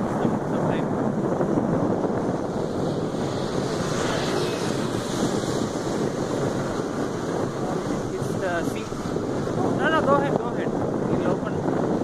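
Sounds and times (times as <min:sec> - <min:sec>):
moving vehicle rushing noise: 0:00.0 - 0:12.0
wind buffeting microphone: 0:00.0 - 0:12.0.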